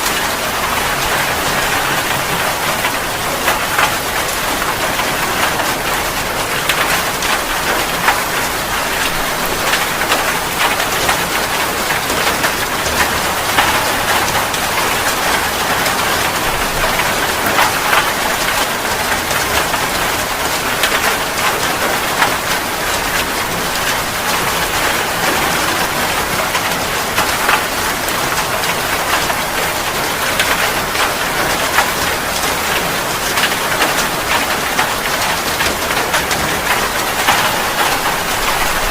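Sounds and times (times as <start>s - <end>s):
raindrops tapping a surface: 0.0s - 38.9s.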